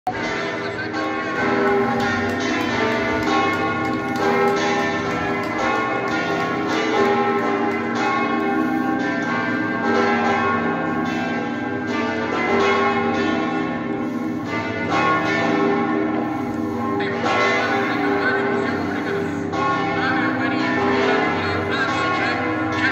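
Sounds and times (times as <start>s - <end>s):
church bells pealing: 0.1s - 22.9s.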